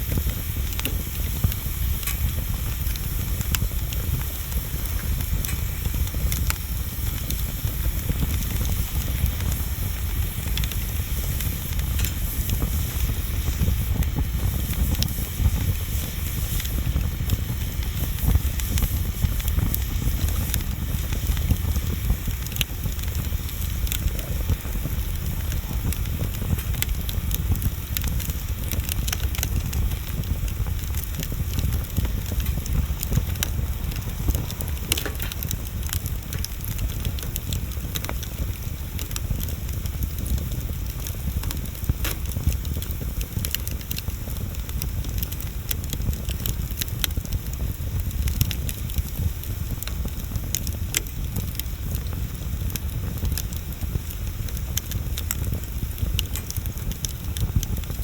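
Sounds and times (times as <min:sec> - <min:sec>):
bonfire crackling and popping: 0:00.0 - 0:58.0
low rush of fire: 0:00.0 - 0:58.0.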